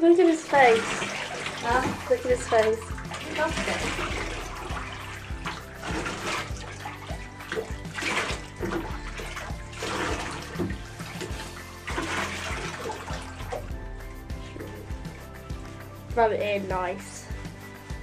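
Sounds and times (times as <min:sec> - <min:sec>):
background music with low bass: 0:00.0 - 0:18.0
bathwater splashing and sloshing: 0:00.0 - 0:18.0.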